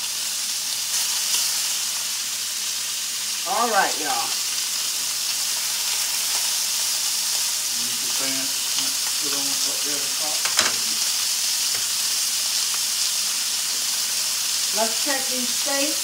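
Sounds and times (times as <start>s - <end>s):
meat sizzling in skillet: 0.0s - 16.0s.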